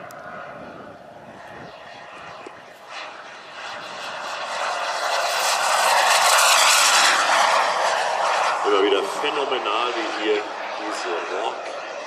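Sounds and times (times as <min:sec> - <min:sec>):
model jet turbine rushing: 0:00.0 - 0:12.0.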